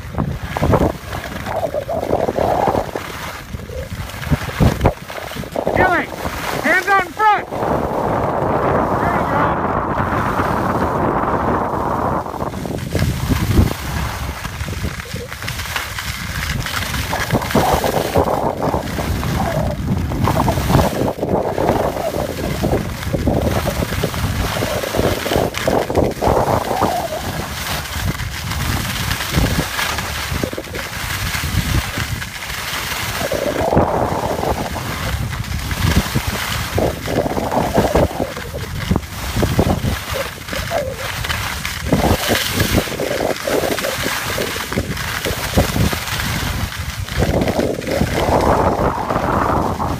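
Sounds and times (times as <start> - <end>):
skis scraping over snow: 0.0 - 49.9
wind buffeting microphone: 0.0 - 49.9.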